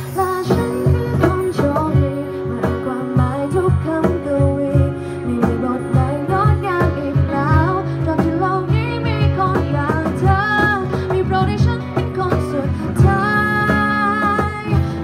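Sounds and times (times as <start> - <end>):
acoustic guitar: 0.0 - 15.0
cajon beat: 0.0 - 15.0
woman singing into microphone: 0.0 - 15.0.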